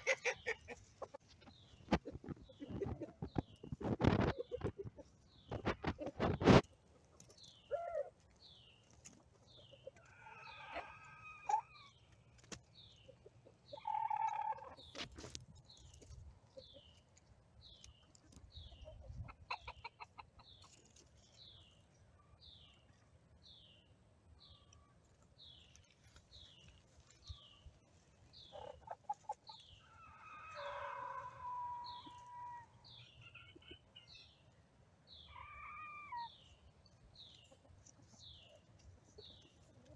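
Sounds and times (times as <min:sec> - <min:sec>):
chickens clucking: 0:00.0 - 0:23.2, 0:24.4 - 0:39.9.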